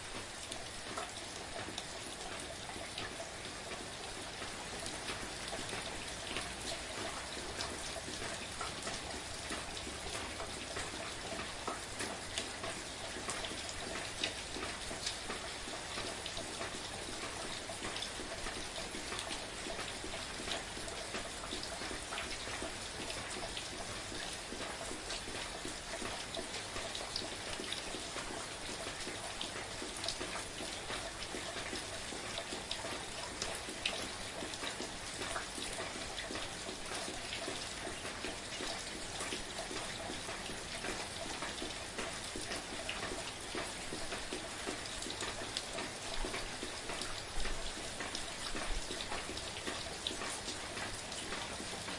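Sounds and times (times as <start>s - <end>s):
soft rain falling: 0.0s - 51.9s.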